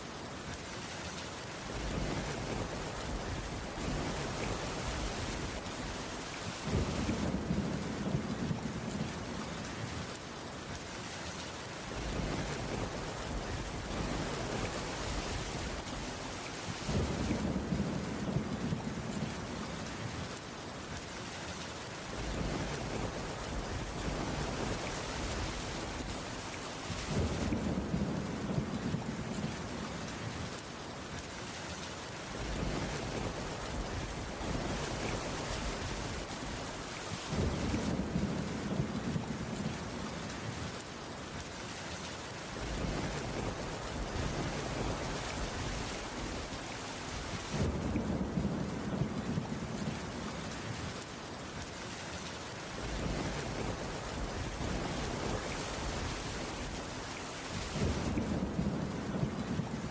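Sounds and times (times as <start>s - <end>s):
rain on a wooden roof: 0.0s - 59.9s
distant thunder rumble: 1.6s - 10.1s, 11.9s - 20.3s, 22.1s - 30.4s, 32.3s - 40.8s, 42.5s - 51.0s, 52.7s - 59.9s.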